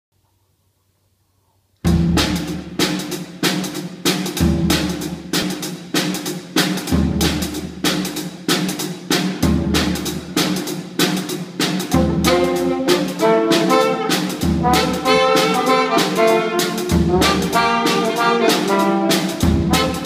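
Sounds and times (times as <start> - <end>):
snare and cymbal strikes: 1.8 - 20.0.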